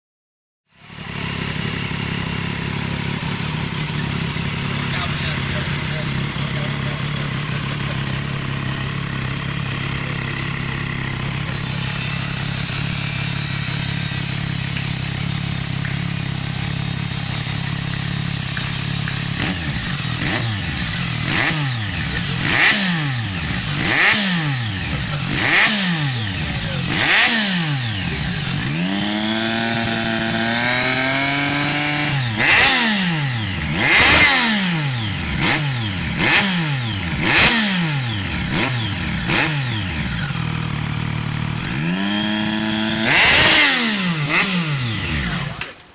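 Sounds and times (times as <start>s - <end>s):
motorcycle engine idling: 0.7s - 45.9s
motorcycle engine revving: 0.7s - 45.9s.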